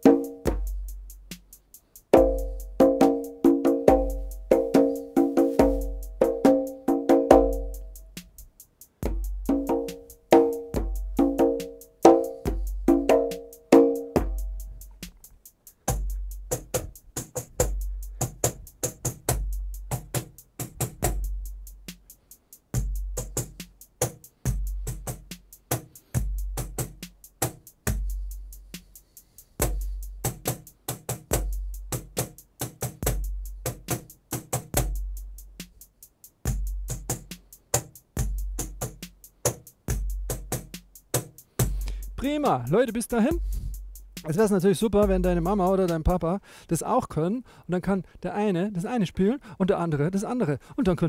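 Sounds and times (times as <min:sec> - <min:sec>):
hand drum groove: 0:00.0 - 0:46.3.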